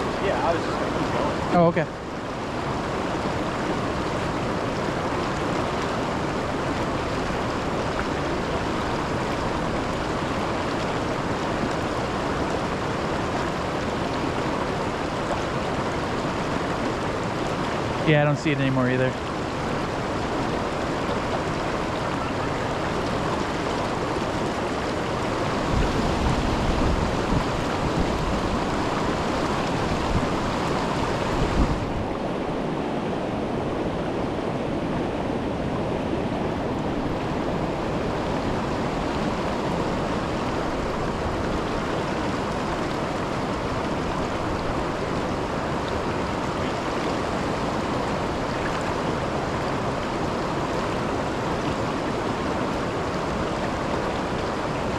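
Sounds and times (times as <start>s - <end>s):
rushing river water: 0.0s - 54.9s.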